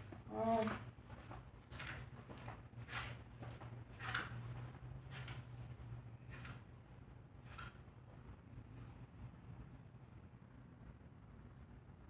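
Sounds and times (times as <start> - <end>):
fan swishing: 0.0 - 10.6
box fan humming: 0.0 - 12.0.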